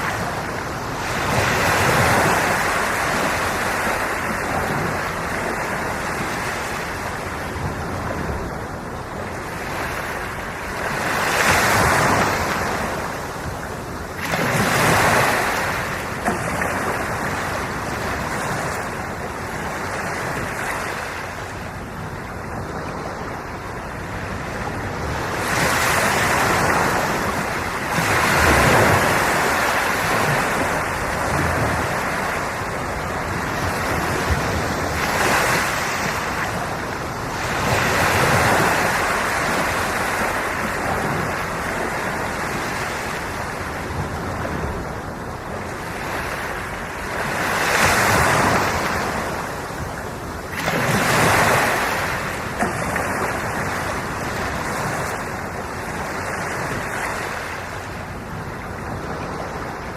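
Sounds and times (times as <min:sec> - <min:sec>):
ocean waves breaking on shore: 0:00.0 - 0:59.9
wind on microphone: 0:00.0 - 0:59.9.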